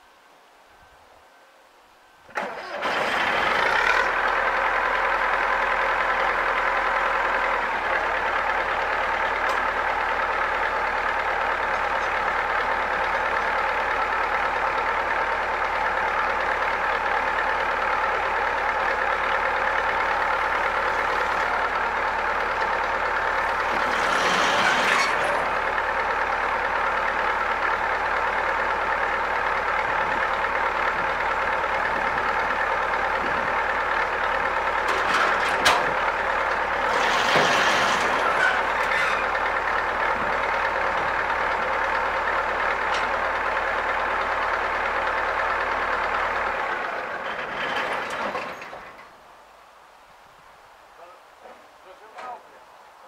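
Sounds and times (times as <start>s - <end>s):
mower engine running: 2.3s - 49.0s.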